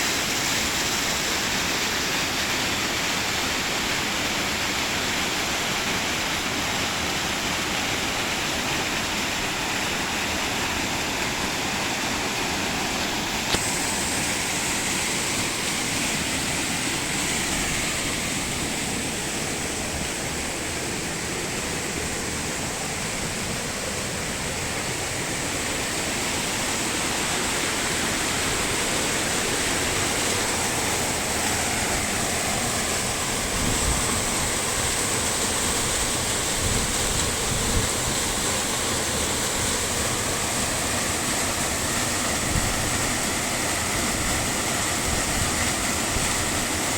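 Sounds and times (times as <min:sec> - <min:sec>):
waterfall pouring and splashing: 0:00.0 - 0:46.9.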